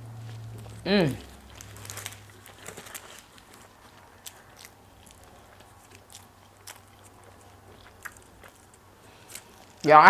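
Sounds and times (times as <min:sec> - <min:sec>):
person chewing food: 0:00.2 - 0:09.9.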